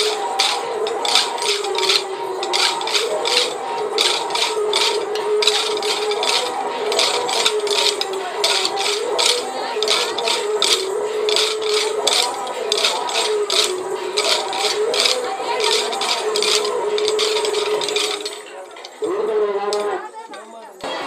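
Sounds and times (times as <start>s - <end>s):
music with wavering melody: 0.0s - 19.1s
wooden sticks clacking rhythmically: 0.0s - 21.0s.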